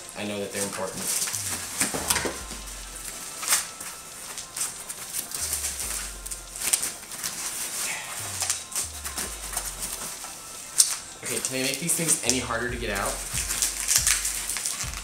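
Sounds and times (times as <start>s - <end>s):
packing wrap crinkling: 0.5s - 15.0s.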